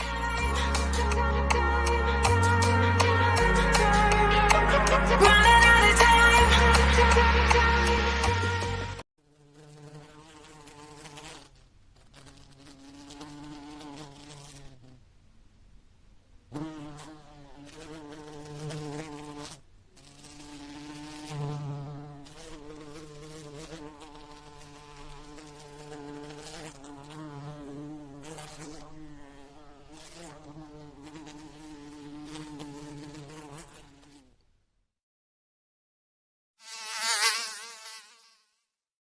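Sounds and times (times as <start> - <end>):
fly buzzing: 0.0 - 15.0, 16.5 - 34.5, 36.6 - 38.8.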